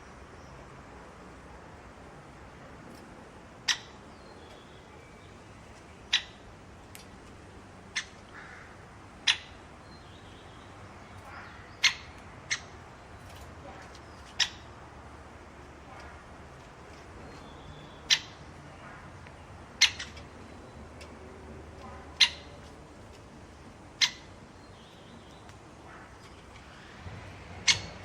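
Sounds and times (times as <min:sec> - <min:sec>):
faint steady background noise: 0:00.0 - 0:28.0.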